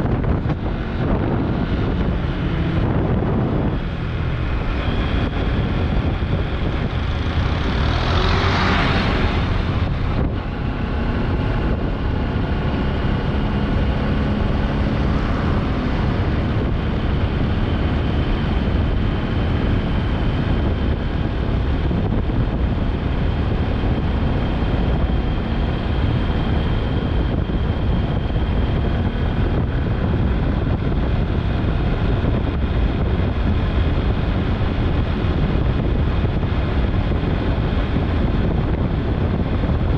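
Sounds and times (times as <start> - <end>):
vehicle engine and road noise: 0.0 - 39.9
wind rushing on microphone: 0.0 - 39.9.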